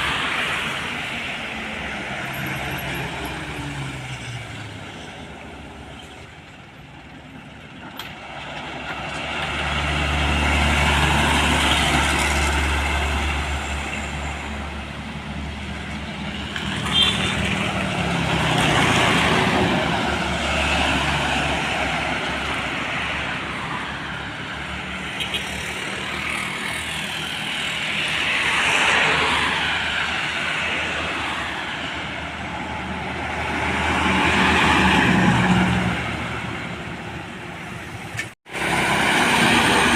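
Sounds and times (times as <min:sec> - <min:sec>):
heavy vehicles passing: 0:00.0 - 0:39.9.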